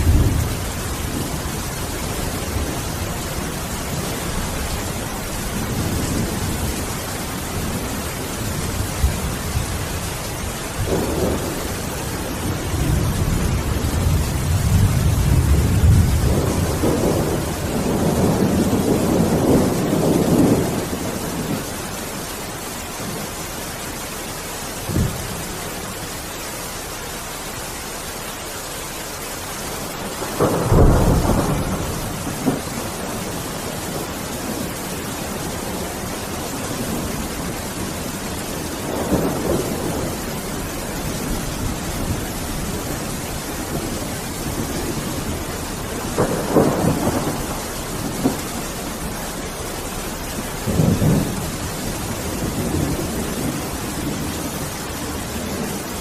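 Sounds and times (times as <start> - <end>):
thunder rolling and cracking: 0.0 - 22.0, 24.8 - 25.5, 29.8 - 56.0
heavy rain hissing: 0.0 - 56.0.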